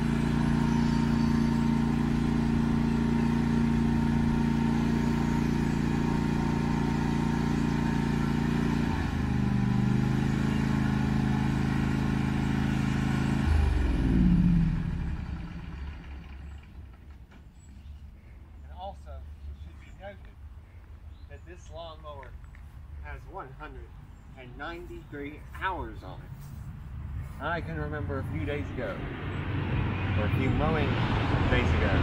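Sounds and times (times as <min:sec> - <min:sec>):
riding lawn mower engine: 0:00.0 - 0:19.7, 0:22.6 - 0:32.0.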